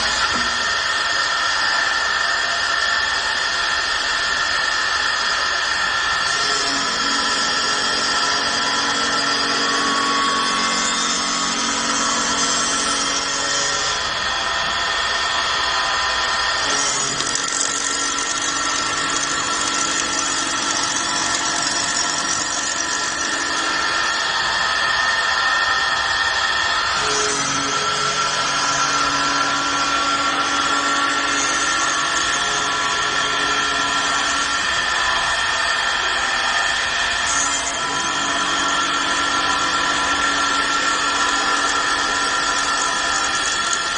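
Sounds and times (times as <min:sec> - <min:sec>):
wood lathe whine and cutting: 0:00.0 - 0:43.9.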